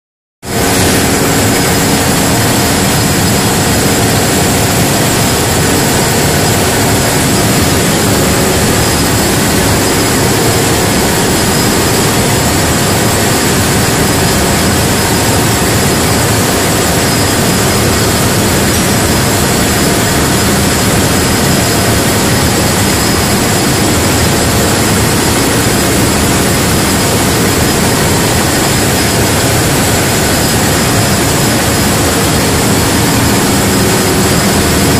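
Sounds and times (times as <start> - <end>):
thin high whine: 0.4 - 34.9.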